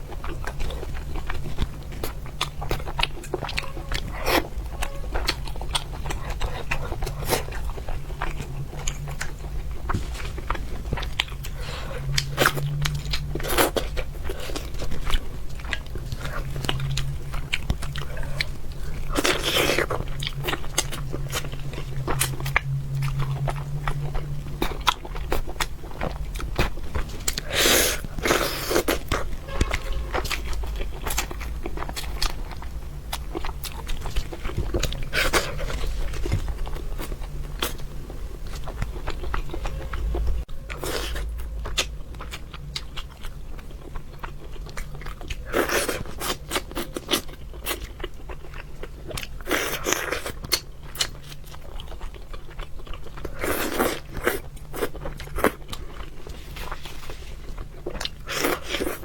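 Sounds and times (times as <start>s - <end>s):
wet chewing with crunches: 0.0s - 59.0s.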